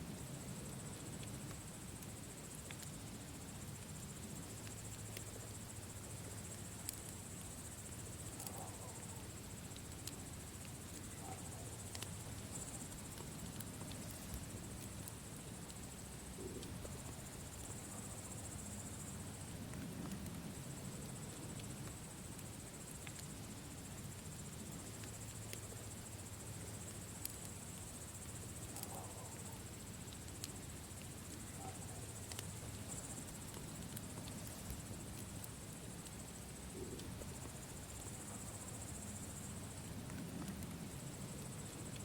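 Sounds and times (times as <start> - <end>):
crickets trilling: 0.0 - 42.0
campfire crackling and popping: 0.1 - 42.0.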